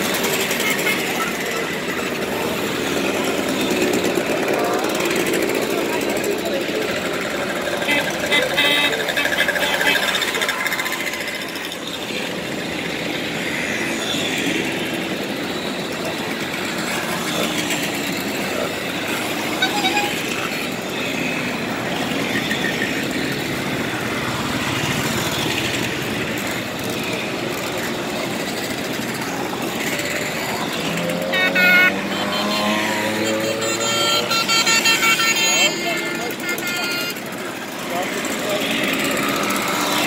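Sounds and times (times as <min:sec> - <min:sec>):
mopeds and scooters riding past: 0:00.0 - 0:35.2, 0:35.8 - 0:40.0.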